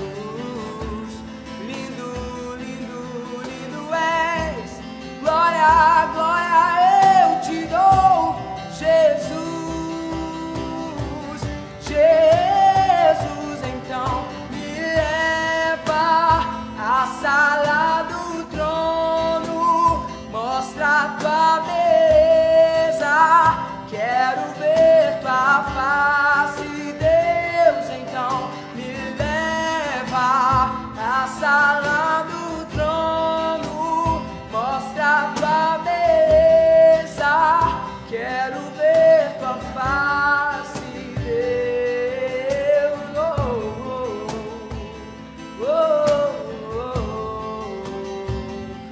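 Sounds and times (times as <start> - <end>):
acoustic guitar: 0.0 - 48.9
cajon drum beat: 0.0 - 48.9
man singing: 0.0 - 48.9.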